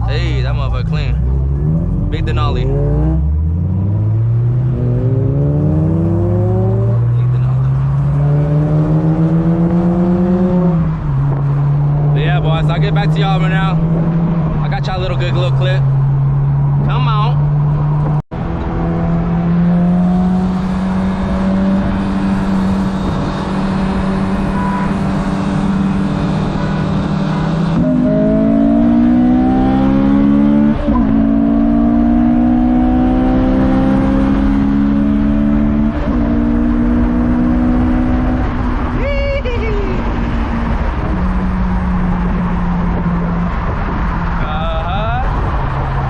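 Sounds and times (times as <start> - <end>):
car engine accelerating through gears: 0.0 - 46.0.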